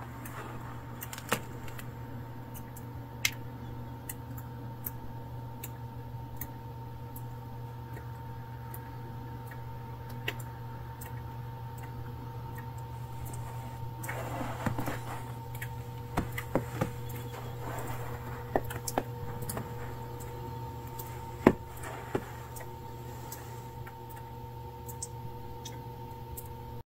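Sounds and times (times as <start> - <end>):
steady low hum: 0.0 - 26.8.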